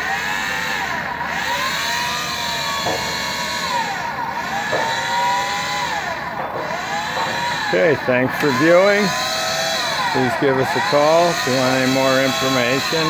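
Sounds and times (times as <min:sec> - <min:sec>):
feed motor whining: 0:00.0 - 0:13.0.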